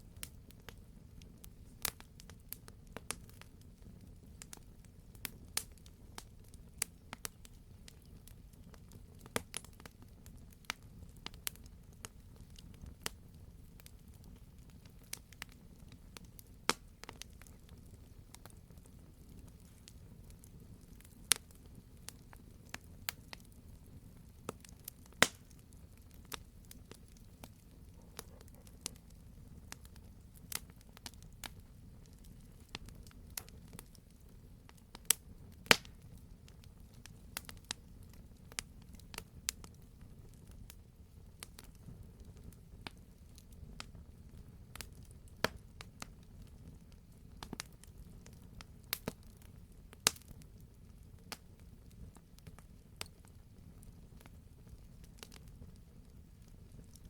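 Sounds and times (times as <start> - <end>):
burning wood crackling and popping: 0.0 - 57.0
low rumble of flames: 0.0 - 57.0.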